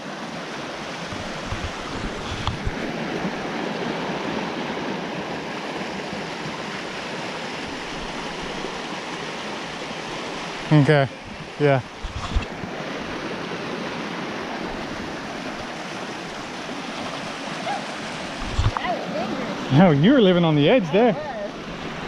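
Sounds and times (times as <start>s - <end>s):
river rushing over cascade: 0.0s - 22.0s.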